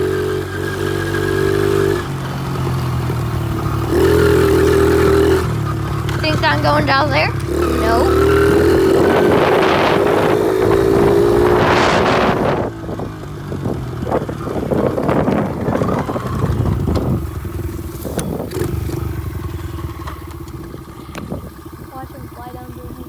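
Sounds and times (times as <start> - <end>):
motorcycle engine revving: 0.0 - 23.0
wind buffeting microphone: 1.6 - 23.0.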